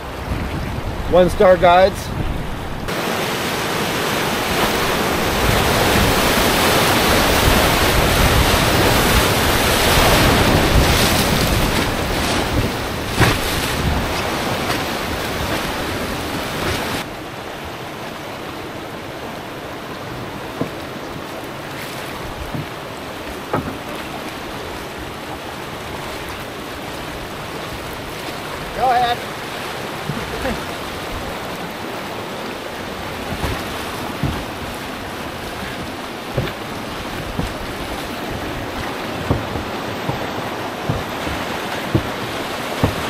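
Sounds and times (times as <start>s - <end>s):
whitewater rapid rushing: 0.0s - 43.0s.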